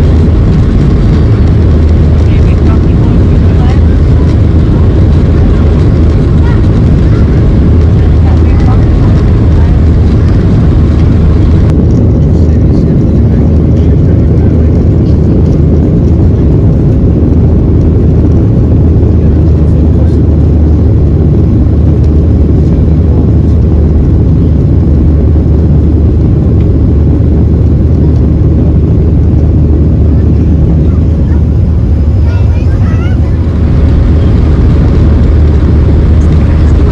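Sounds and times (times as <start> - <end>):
aircraft cabin engine rumble: 0.0 - 36.9.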